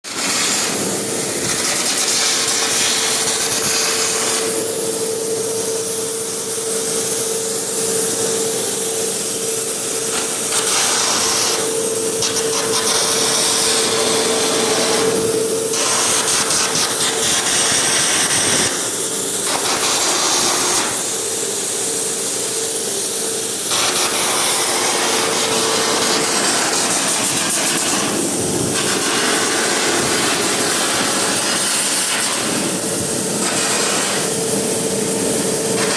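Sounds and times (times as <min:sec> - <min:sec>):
welding arc crackling and hissing: 0:00.0 - 0:35.9.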